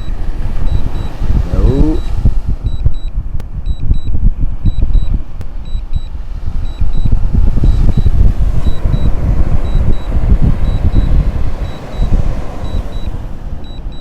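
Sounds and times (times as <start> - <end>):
remote controller double beeps: 0.0 - 14.0
wind buffeting microphone: 0.0 - 14.0.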